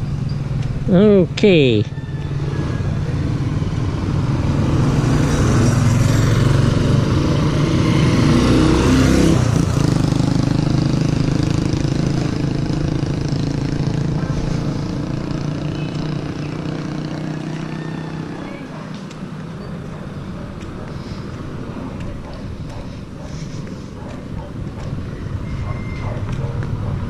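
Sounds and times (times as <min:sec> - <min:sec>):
small motorcycle engine passing: 0:01.9 - 0:27.0.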